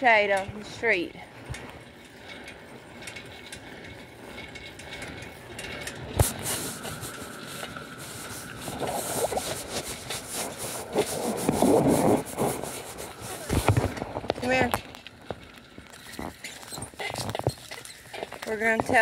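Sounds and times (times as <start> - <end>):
scraping: 0.0 - 19.0.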